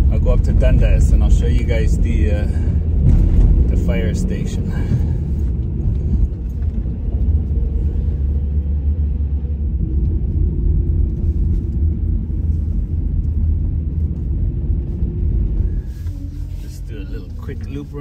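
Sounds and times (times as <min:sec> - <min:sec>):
car cabin engine and tyre rumble: 0:00.0 - 0:18.0.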